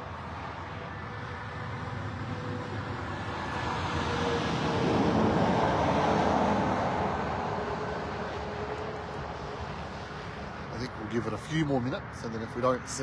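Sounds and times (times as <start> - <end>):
vehicle passing by: 0.0 - 11.5.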